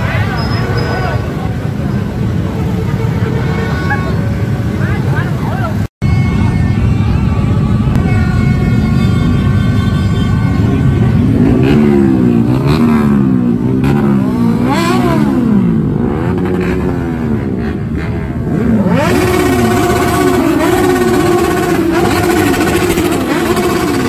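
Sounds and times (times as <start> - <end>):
motorcycles revving engines: 0.0 - 24.0.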